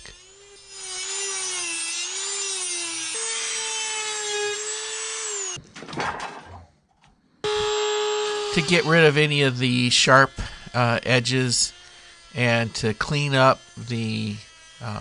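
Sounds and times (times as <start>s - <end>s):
rotary tool cutting metal whine: 0.0s - 5.6s, 7.5s - 15.0s.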